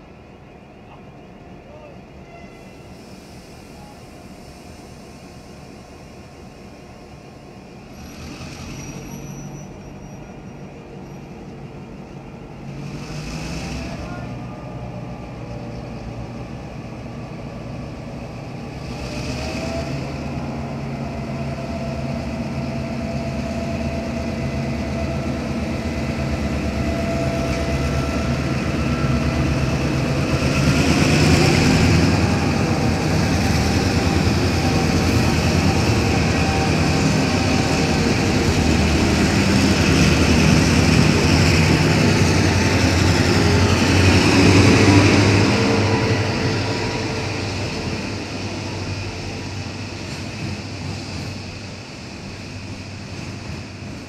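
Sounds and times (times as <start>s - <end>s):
diesel locomotive engines running: 0.0s - 54.0s.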